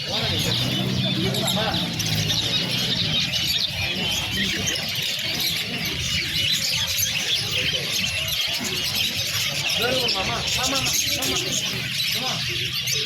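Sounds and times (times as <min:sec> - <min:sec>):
small birds chirping and twittering: 0:00.0 - 0:13.0.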